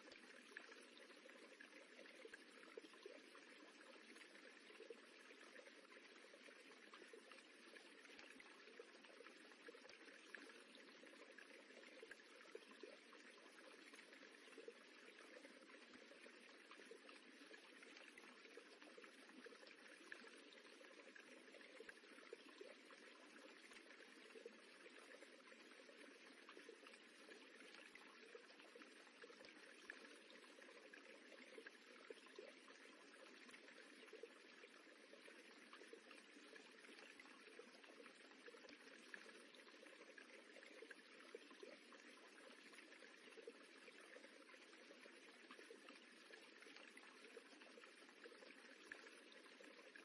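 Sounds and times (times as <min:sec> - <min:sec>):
running water rippling: 0:00.0 - 0:50.0
water splashes and trickles: 0:00.0 - 0:50.0.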